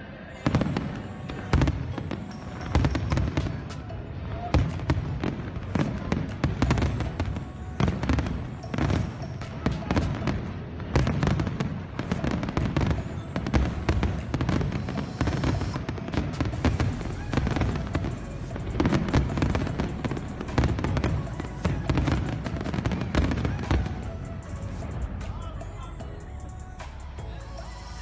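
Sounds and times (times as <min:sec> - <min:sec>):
fireworks bangs and crackles: 0:00.4 - 0:25.8.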